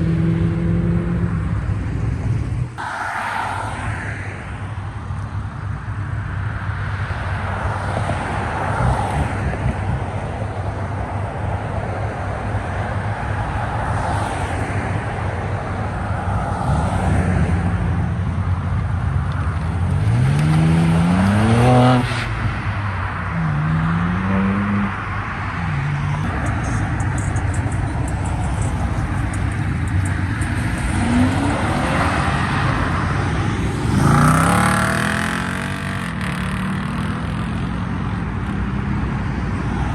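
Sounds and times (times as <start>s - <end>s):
car exhaust rumbling and revving: 0.0s - 39.9s.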